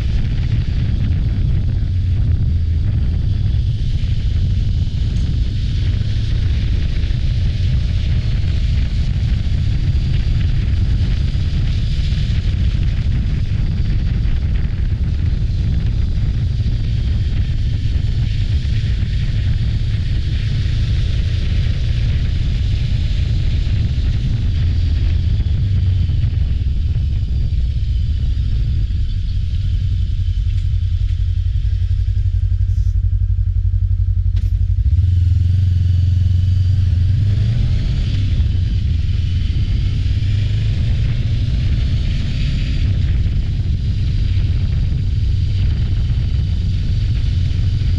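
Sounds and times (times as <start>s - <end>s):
wind buffeting microphone: 0.0s - 33.2s, 34.6s - 47.9s
motorcycle running: 0.0s - 47.9s.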